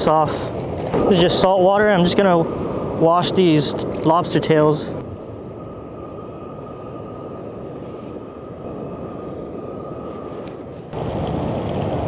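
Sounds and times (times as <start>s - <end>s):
faint high whine: 0.0s - 11.5s.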